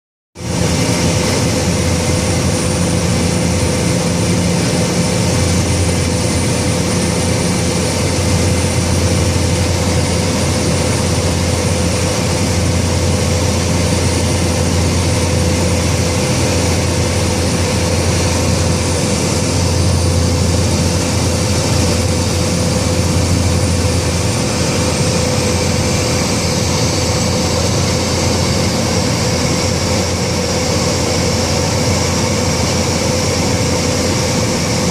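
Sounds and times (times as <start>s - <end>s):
turboprop engine drone with whine: 0.4s - 34.9s.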